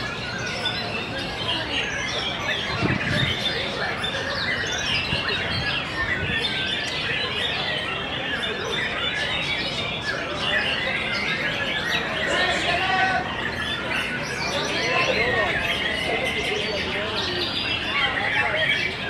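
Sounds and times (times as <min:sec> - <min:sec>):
birds whistling and trilling: 0:00.0 - 0:19.0.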